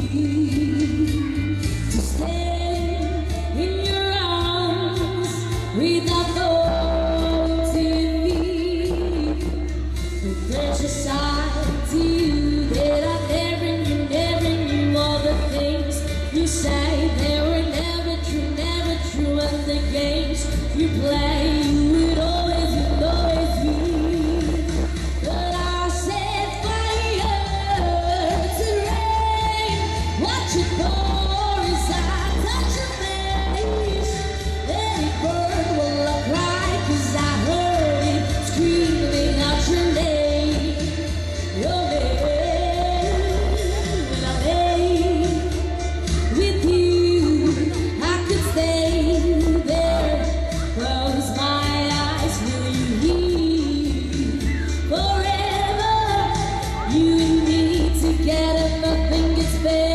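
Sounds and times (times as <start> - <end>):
backing track with bass line: 0.0 - 59.9
person singing pop song: 0.0 - 59.9.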